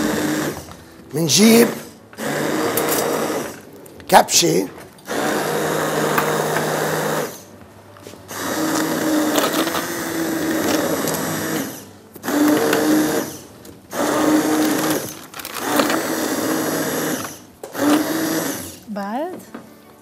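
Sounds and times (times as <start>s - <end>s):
immersion blender motor: 0.0s - 3.6s, 5.0s - 7.5s, 8.3s - 18.9s.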